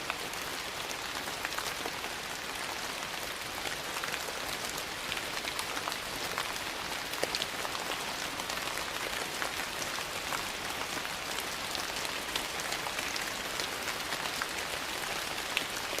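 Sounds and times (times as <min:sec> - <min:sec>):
rain falling on a porch: 0:00.0 - 0:16.0.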